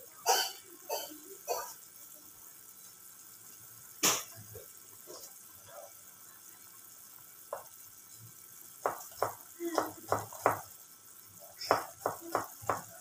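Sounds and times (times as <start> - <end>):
soup boiling and bubbling: 0.0 - 13.0.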